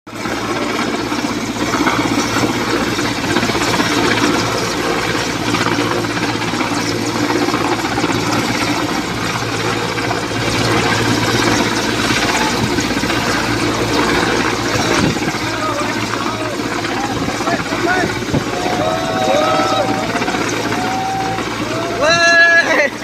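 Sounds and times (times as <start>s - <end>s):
helicopter rotor and engine drone: 0.1s - 23.0s.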